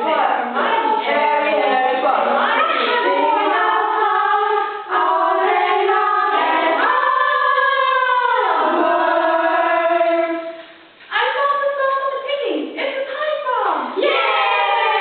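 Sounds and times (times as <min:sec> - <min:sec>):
young female voices singing: 0:00.0 - 0:12.3.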